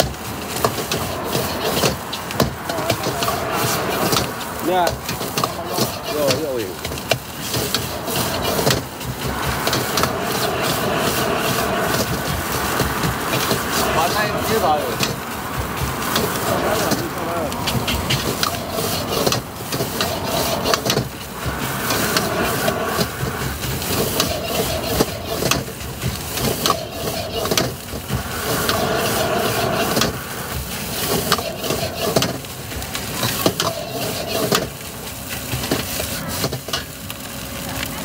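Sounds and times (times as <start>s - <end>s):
metal spatula scraping a wok: 0.4s - 34.8s.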